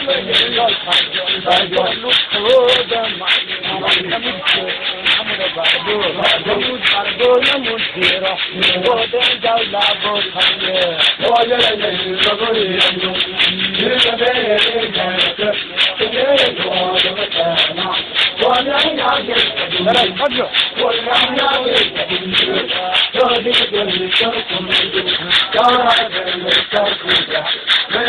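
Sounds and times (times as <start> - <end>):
crowd singing together: 0.0 - 28.0
fast beat of sharp strikes: 0.0 - 28.0.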